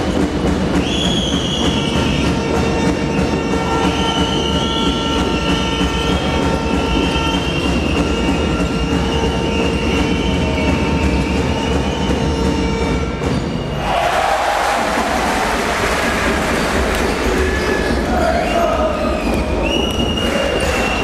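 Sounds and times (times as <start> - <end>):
arena crowd noise: 0.0 - 21.0.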